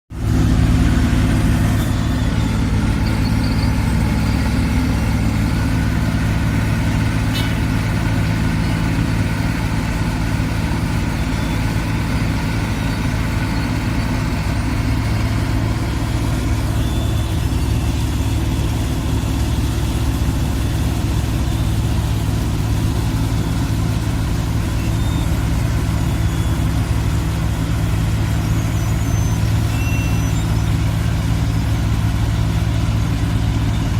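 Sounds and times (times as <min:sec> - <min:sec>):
diesel engine running steadily: 0:00.1 - 0:33.9.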